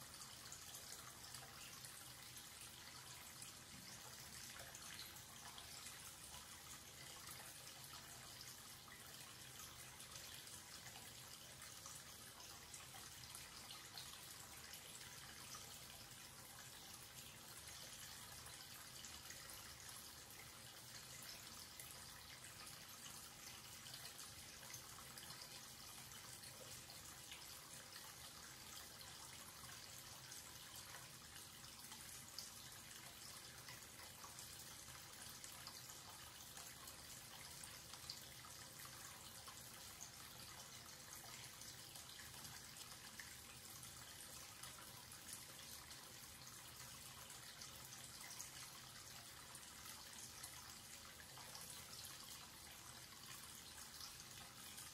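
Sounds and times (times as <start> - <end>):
tap water trickling into basin: 0.0 - 54.9.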